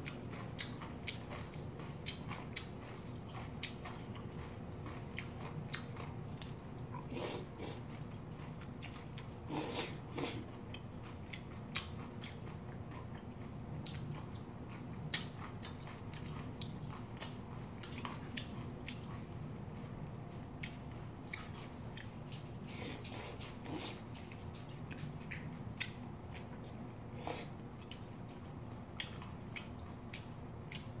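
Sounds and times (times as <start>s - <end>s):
chewing with wet mouth clicks: 0.0s - 31.0s.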